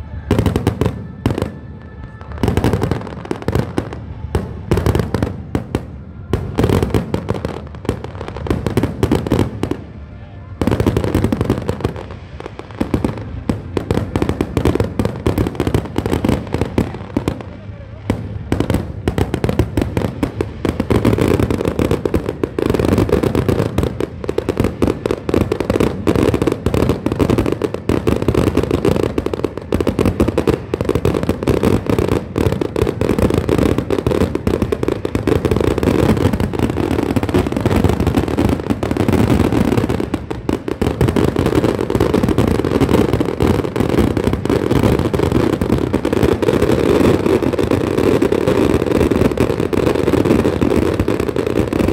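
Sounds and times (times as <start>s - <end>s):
fireworks bursts and crackle: 0.0s - 51.9s.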